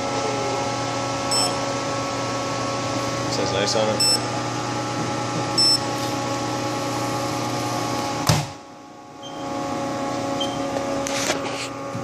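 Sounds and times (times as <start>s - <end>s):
oven blower humming: 0.0s - 12.0s.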